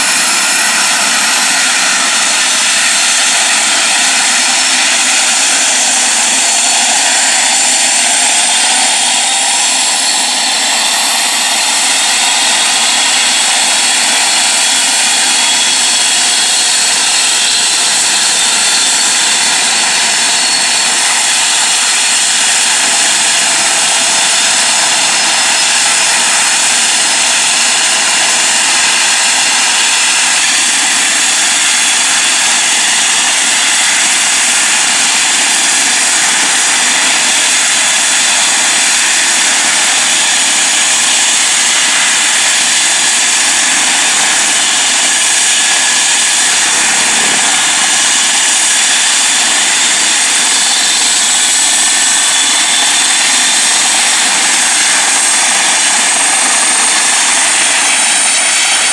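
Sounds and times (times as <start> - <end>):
helicopter engines and rotor running: 0.0 - 58.9.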